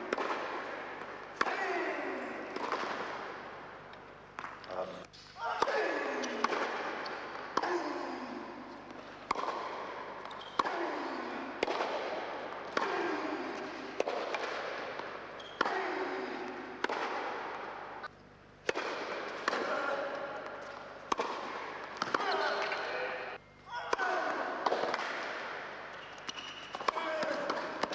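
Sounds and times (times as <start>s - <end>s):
tennis ball hit by rackets: 0.0s - 3.4s, 5.6s - 8.1s, 8.9s - 17.9s, 18.6s - 22.9s, 23.9s - 27.9s
echo ringing in indoor hall: 0.0s - 27.9s.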